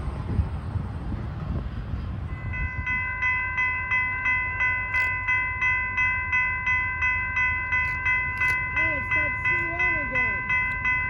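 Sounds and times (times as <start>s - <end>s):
crossing warning bell ringing: 2.1s - 11.0s.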